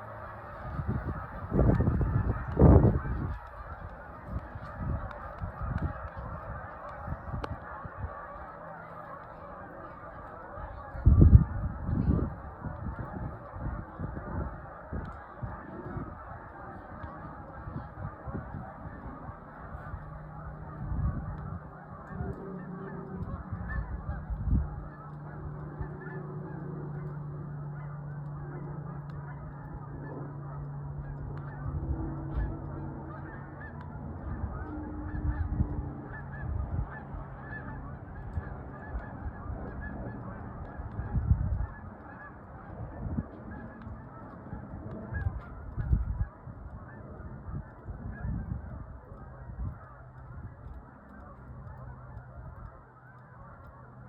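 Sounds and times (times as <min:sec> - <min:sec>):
geese honking: 0:00.0 - 0:54.0
low hum: 0:00.0 - 0:54.0.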